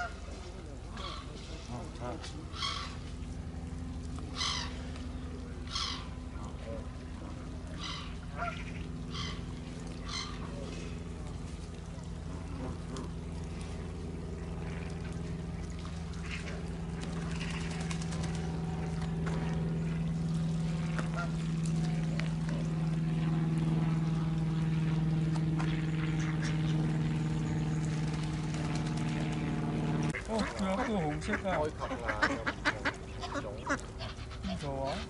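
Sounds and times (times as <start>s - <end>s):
motor droning: 0.0s - 35.0s.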